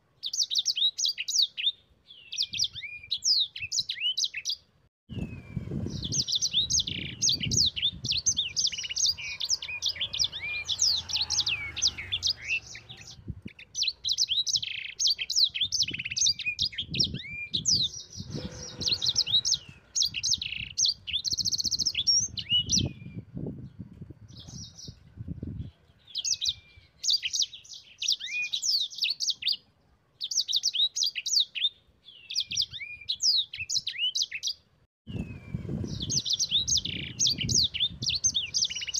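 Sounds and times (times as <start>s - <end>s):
canary singing trills: 0.2s - 23.4s, 25.7s - 38.9s.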